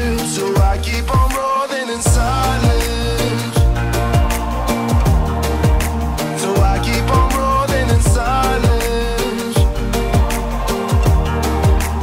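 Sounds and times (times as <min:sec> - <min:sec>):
music with kick drums and bass: 0:00.0 - 0:01.5, 0:02.1 - 0:12.0.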